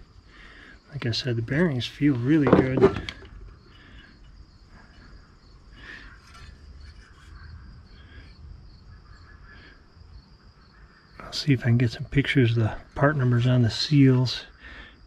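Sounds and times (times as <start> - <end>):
insect-like chirping: 0.0 - 15.0.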